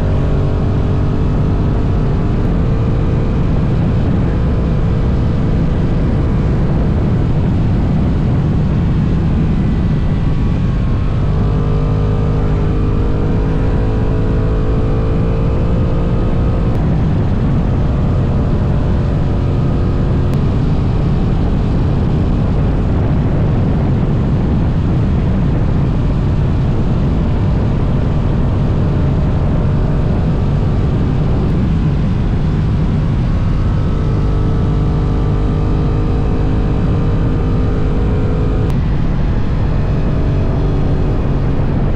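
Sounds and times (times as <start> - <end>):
motorcycle engine running: 0.0 - 41.9
wind rushing on camera: 0.0 - 41.9.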